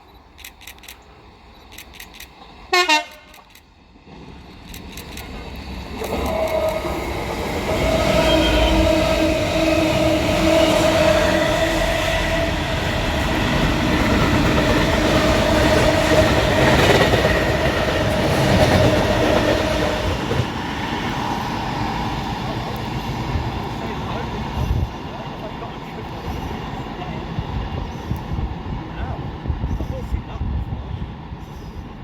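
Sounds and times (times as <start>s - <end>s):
train rumble: 0.0s - 32.0s
train wheels rattling on rails: 0.0s - 32.0s.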